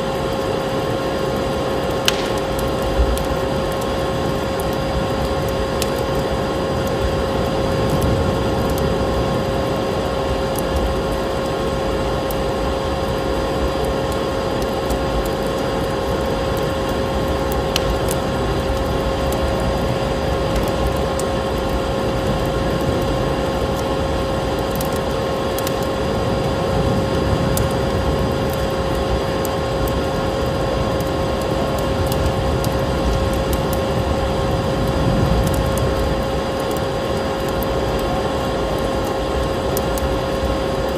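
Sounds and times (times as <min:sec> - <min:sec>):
snowstorm wind: 0:00.0 - 0:40.9
wood fire crackling: 0:00.0 - 0:40.9.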